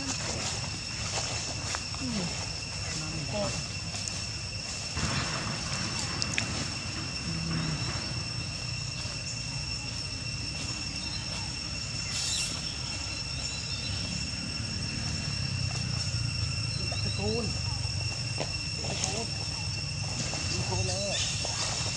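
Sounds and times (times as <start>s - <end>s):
insects droning: 0.0s - 21.9s
low rumble: 0.0s - 21.9s.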